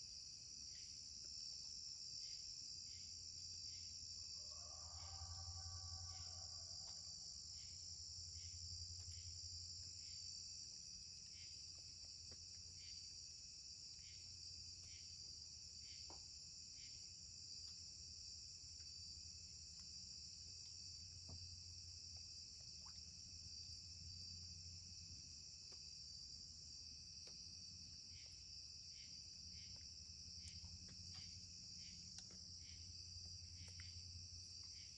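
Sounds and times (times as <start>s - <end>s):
insect chirp: 0.0s - 34.9s
insect drone: 0.0s - 34.9s.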